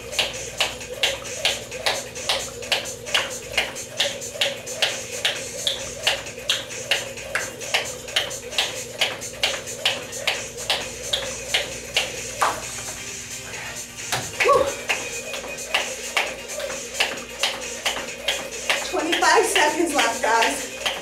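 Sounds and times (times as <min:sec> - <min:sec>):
jump rope slapping the floor: 0:00.0 - 0:13.0, 0:14.1 - 0:21.0.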